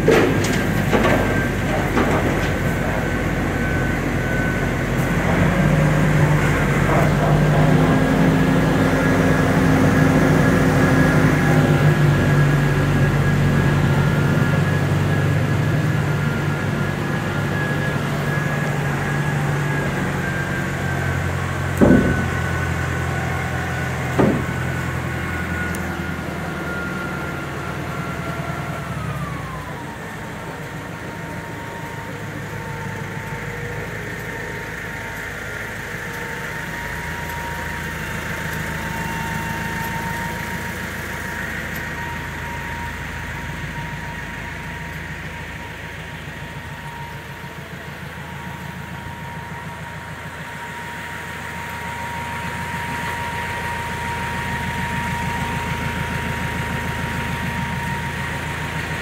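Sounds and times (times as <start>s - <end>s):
tractor engine drone: 0.0s - 59.0s.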